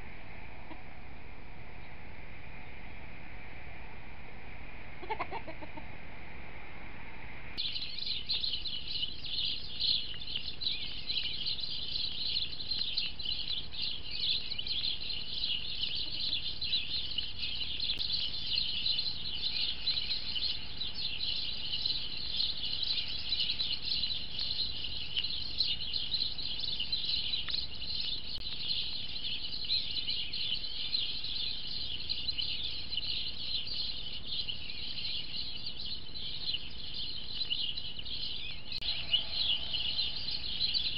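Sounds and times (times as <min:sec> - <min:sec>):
small birds chirping: 0:05.0 - 0:05.9, 0:07.6 - 0:40.9.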